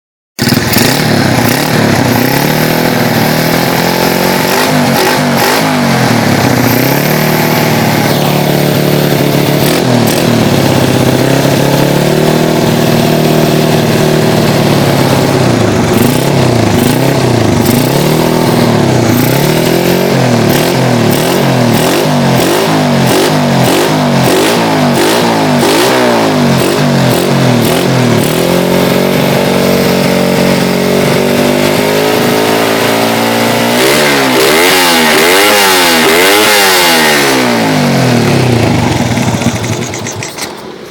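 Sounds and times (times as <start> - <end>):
motorcycle engine revving: 0.4 - 40.9.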